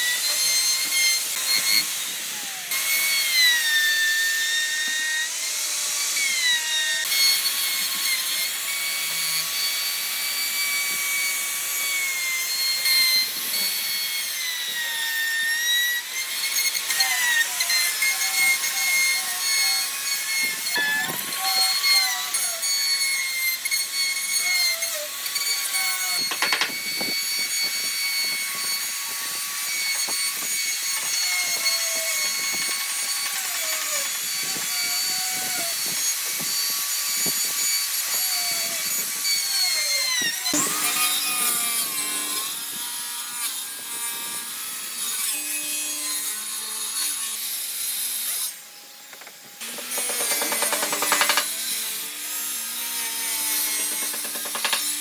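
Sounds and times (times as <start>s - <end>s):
power tool whining on wood: 0.0s - 55.0s.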